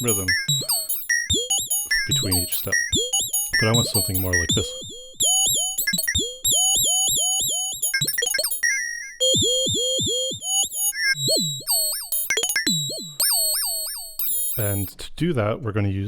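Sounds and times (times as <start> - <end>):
synthesizer chirps: 0.0 - 14.9.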